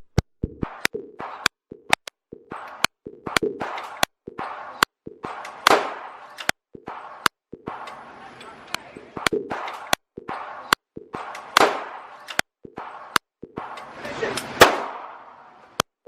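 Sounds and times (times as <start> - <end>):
gunshots echoing: 2.5 - 15.8.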